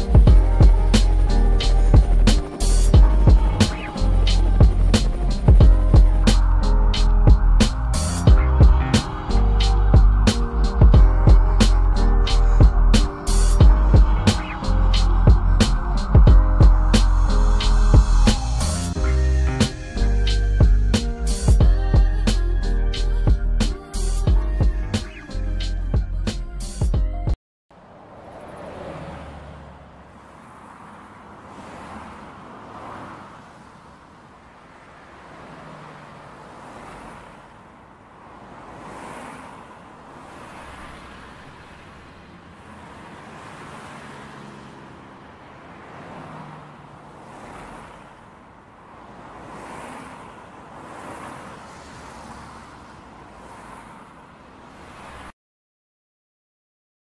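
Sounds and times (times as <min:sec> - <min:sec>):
distant city traffic hum: 0:00.0 - 0:26.8, 0:27.7 - 0:55.3.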